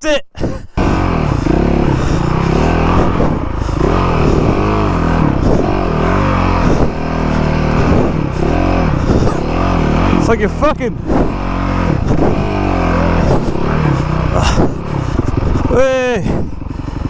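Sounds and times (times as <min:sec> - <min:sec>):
motorcycle engine revving: 0:00.8 - 0:17.0.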